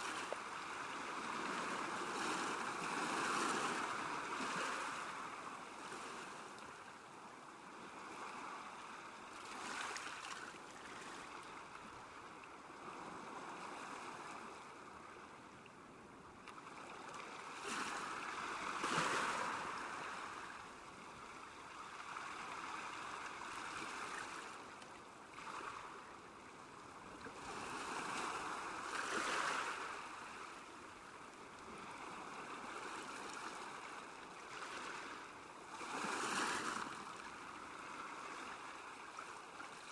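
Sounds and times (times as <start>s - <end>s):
small waves lapping: 0.0s - 7.0s, 7.8s - 15.5s, 16.4s - 39.9s.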